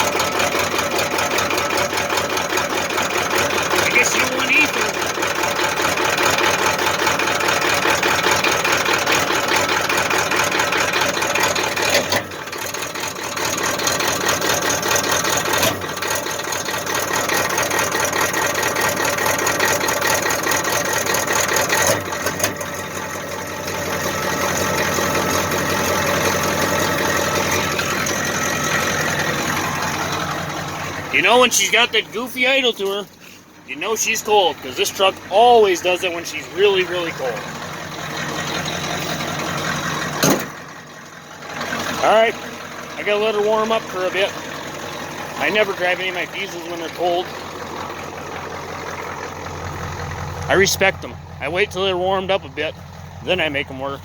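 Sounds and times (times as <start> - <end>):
diesel engine idling unevenly: 0.0 - 54.0.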